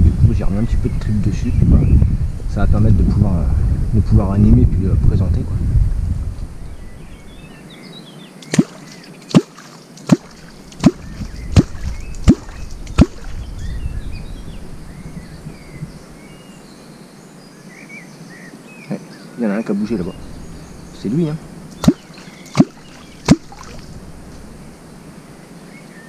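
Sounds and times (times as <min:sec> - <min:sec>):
faint birds chirping: 0:00.0 - 0:05.5, 0:06.2 - 0:26.0.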